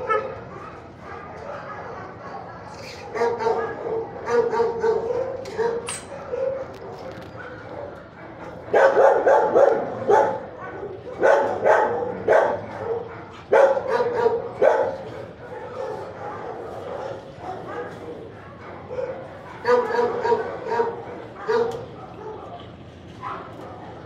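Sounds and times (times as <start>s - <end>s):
dogs barking: 0.0s - 24.0s.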